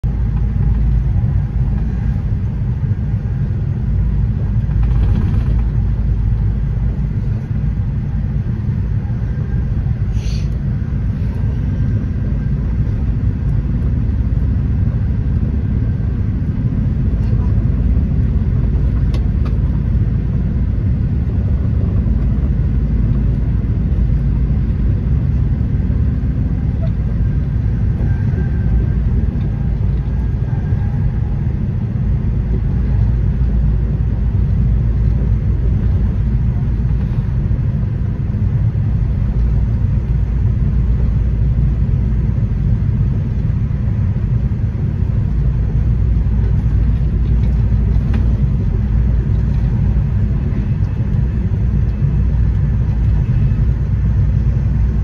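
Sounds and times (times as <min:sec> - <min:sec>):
train rumble from inside: 0:00.0 - 0:55.0.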